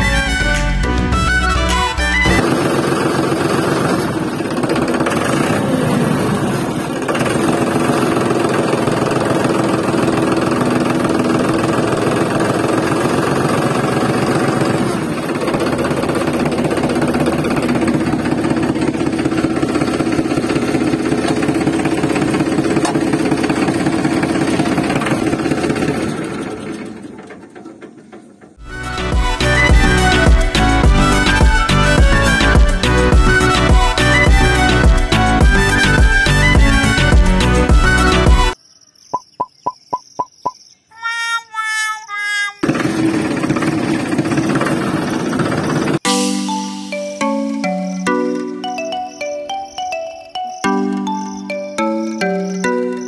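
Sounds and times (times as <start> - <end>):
tractor engine chugging: 1.2 - 38.6, 41.0 - 46.2.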